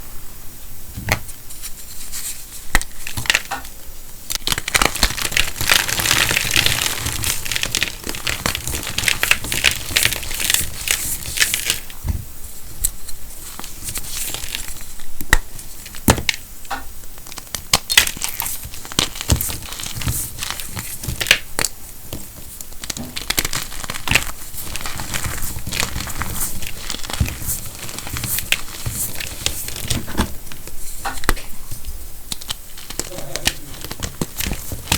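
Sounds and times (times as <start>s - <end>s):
chalky mineral crunching and crackling: 1.6s - 12.0s, 12.6s - 16.4s, 17.1s - 34.9s.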